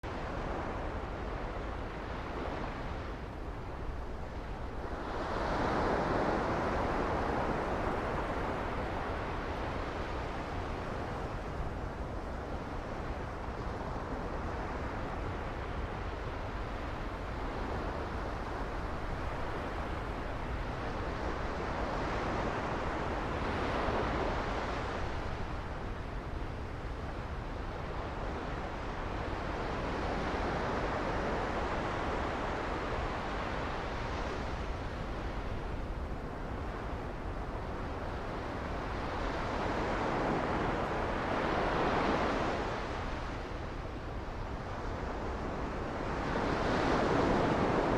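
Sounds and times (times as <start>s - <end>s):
wind rumble on microphone: 0.0s - 47.9s.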